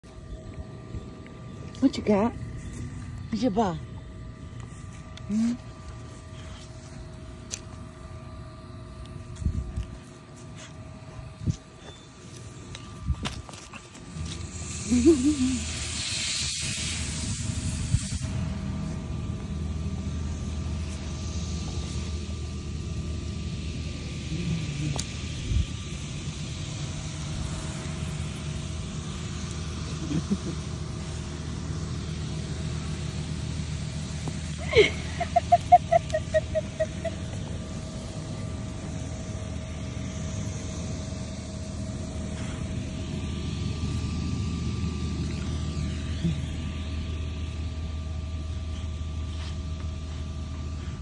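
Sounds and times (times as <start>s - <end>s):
faint hum tones: 0.0s - 51.0s
vehicles and machinery rumble: 0.0s - 51.0s.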